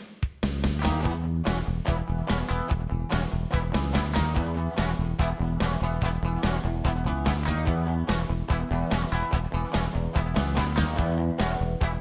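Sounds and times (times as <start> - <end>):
guitar rock music: 0.5 - 12.0.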